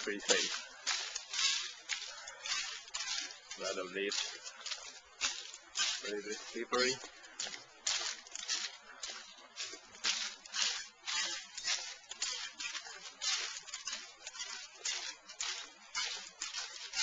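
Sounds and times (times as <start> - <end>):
footsteps on dry leaves: 0.0 - 17.0.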